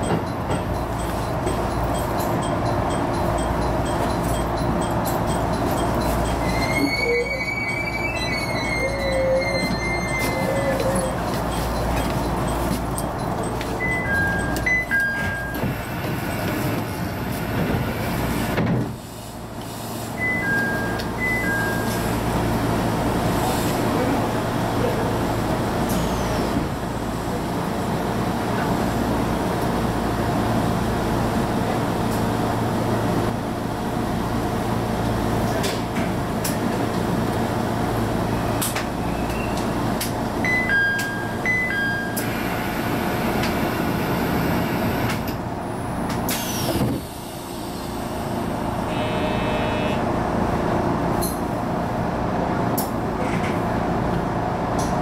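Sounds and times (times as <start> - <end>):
railcar motor hum: 0.0 - 55.0.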